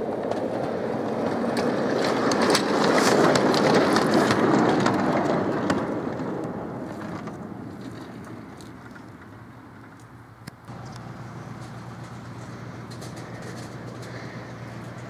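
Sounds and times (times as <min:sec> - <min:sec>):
miniature train wheels rumbling: 0:00.0 - 0:15.0.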